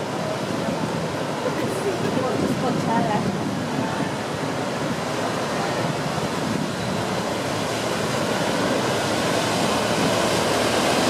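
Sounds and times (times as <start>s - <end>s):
rushing water: 0.0s - 11.0s
wind: 0.0s - 11.0s.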